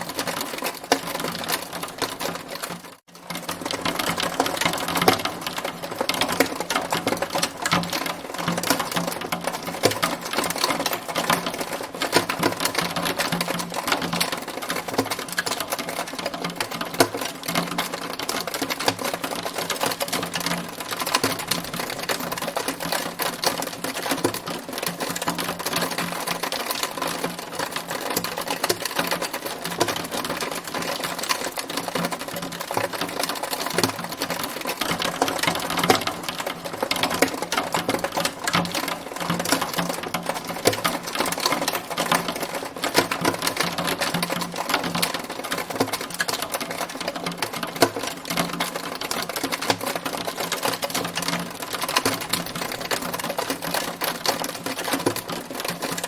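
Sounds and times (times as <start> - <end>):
hail clattering: 0.0 - 56.0.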